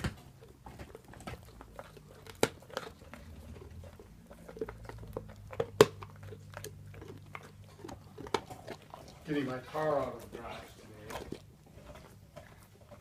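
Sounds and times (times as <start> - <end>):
dog gnawing and crunching a bone: 0.0 - 13.0.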